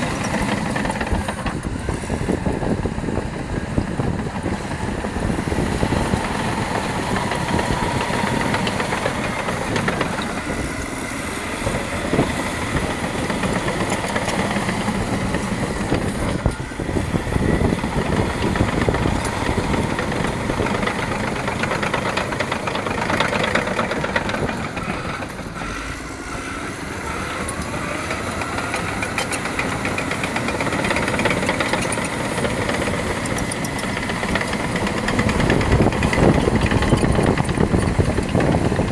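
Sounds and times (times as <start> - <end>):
bulldozer diesel engine under load: 0.0 - 38.9
clatter of bulldozer tracks: 0.0 - 38.9.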